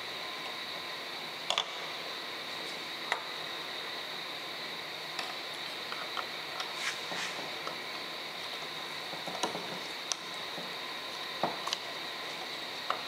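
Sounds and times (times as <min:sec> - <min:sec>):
steady hiss with high tone: 0:00.0 - 0:13.0.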